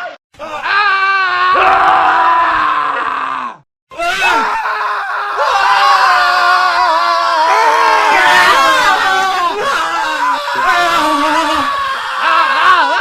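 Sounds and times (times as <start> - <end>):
men screaming: 0.4 - 13.0.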